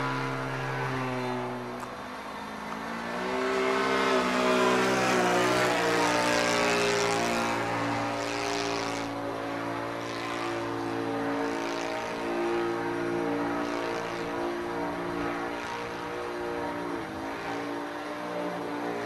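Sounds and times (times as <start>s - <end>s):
model plane engine running: 0.0s - 19.0s.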